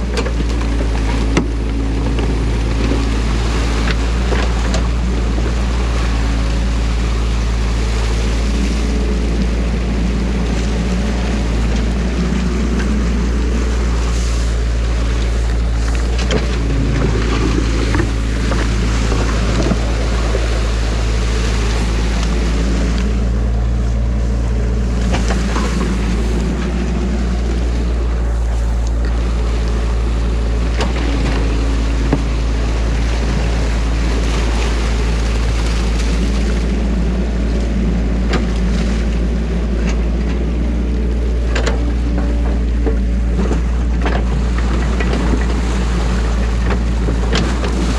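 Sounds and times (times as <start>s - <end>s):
excavator diesel engine running: 0.0s - 47.9s
muddy water churning and splashing: 0.0s - 47.9s.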